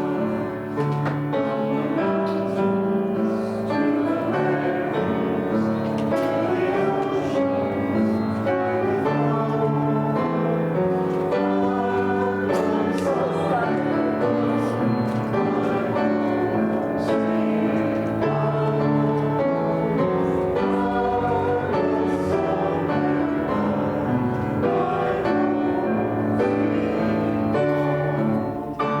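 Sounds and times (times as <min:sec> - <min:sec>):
church keyboard chords and melody: 0:00.0 - 0:29.0.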